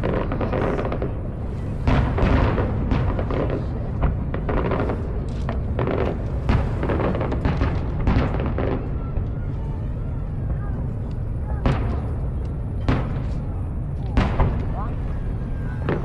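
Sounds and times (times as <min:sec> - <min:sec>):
fireworks bangs and booms: 0:00.0 - 0:16.0
low rumble: 0:00.0 - 0:16.0.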